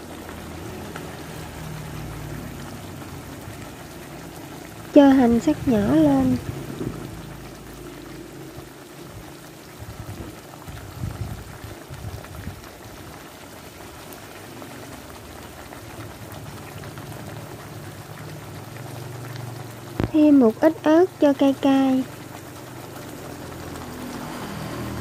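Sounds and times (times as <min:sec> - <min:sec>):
glaze sizzling in a frying pan: 0:00.0 - 0:25.0.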